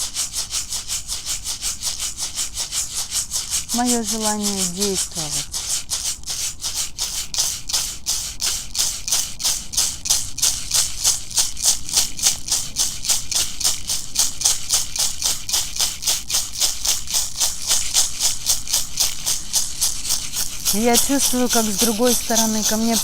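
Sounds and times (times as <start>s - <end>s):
rattle shaken in steady rhythm: 0.0s - 23.0s.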